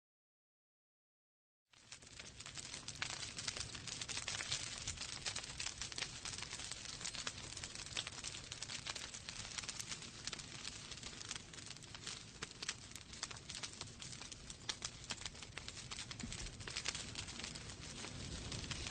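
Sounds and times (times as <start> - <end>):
fireplace fire crackling: 1.7 - 18.9.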